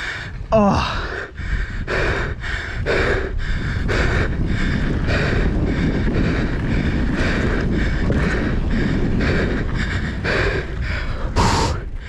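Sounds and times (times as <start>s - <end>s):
quick heavy breathing: 0.0s - 12.0s
wind buffeting microphone: 0.0s - 12.0s.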